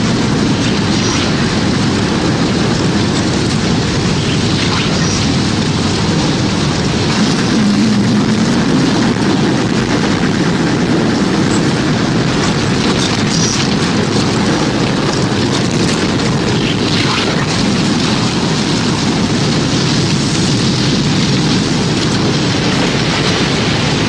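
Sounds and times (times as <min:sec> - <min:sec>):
deep rush of wind: 0:00.0 - 0:24.0.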